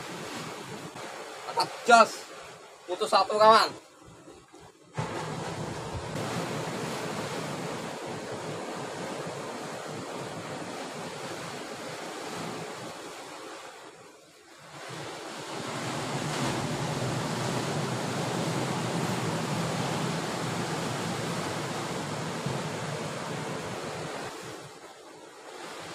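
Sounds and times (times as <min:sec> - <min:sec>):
sea surf on rocky shore: 0:00.0 - 0:25.9.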